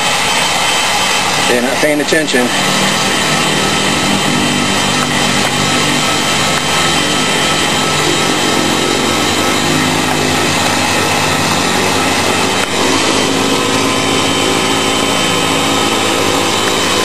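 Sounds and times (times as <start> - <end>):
heat gun blowing air: 0.0 - 17.0
low motor hum: 0.0 - 17.0.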